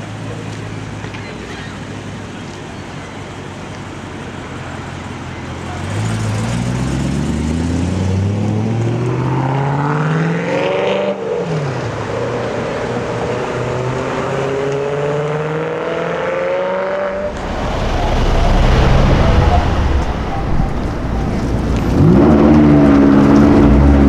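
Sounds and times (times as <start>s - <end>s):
car engine accelerating: 4.2s - 24.0s.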